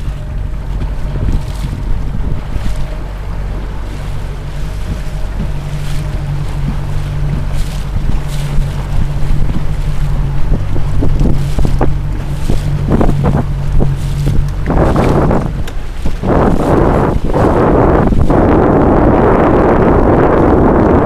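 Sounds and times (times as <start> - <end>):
motorboat engine hum: 0.0 - 21.0
water slapping against hull: 0.0 - 21.0
wind buffeting microphone: 0.0 - 21.0.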